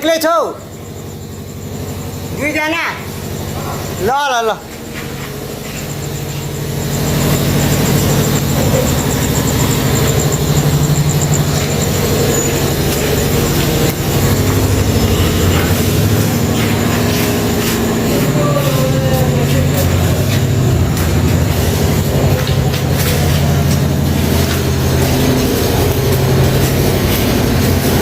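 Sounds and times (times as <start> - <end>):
concrete mixer engine running: 0.0 - 28.0.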